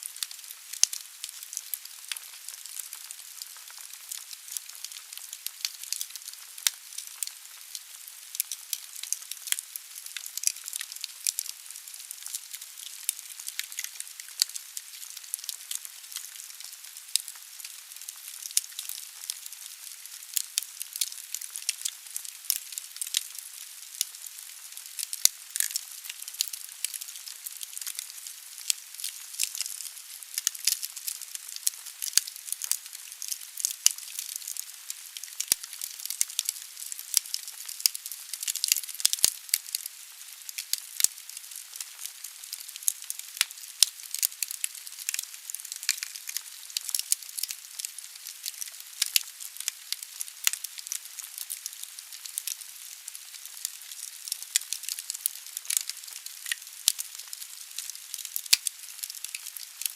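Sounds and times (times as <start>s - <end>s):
soft hiss of flames: 0.0s - 54.7s
burning logs crackling and popping: 0.0s - 59.9s.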